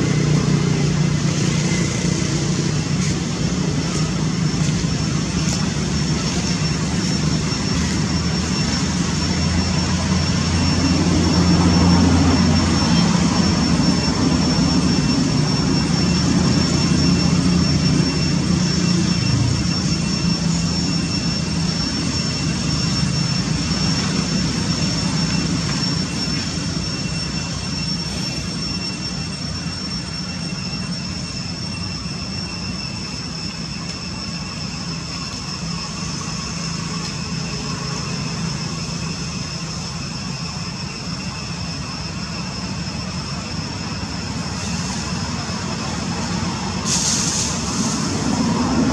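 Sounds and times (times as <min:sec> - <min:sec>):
distant engine rumble: 0:00.0 - 0:48.9
high-pitched whine: 0:00.0 - 0:48.9.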